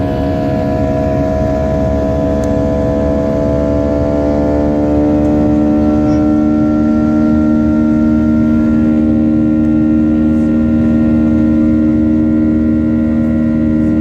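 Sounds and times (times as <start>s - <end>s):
airliner engines droning in cabin: 0.0s - 14.0s.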